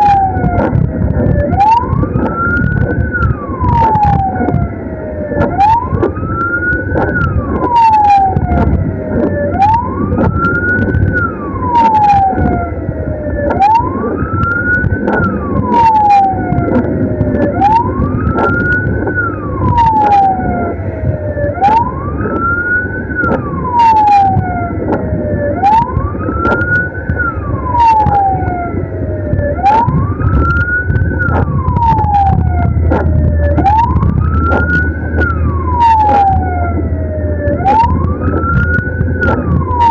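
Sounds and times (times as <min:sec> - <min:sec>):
ambulance siren wailing: 0:00.0 - 0:39.9
engine and road rumble: 0:00.0 - 0:39.9.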